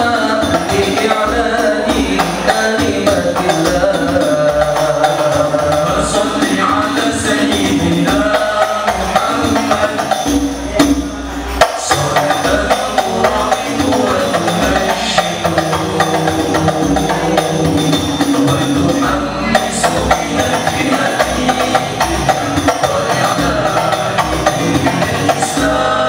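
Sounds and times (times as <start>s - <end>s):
hand frame drums: 0.0s - 26.0s
male voices singing devotional song: 0.0s - 26.0s.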